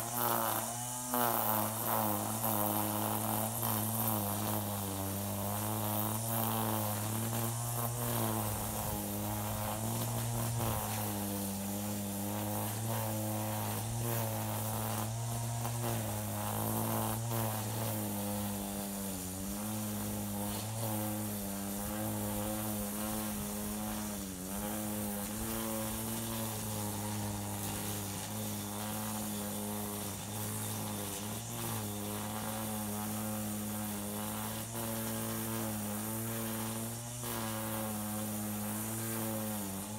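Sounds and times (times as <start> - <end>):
string trimmer engine running: 0.0 - 39.9.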